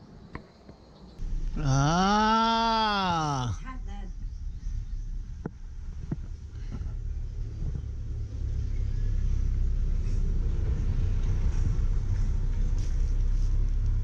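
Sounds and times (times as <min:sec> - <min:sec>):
low steady rumble: 0:01.2 - 0:14.0.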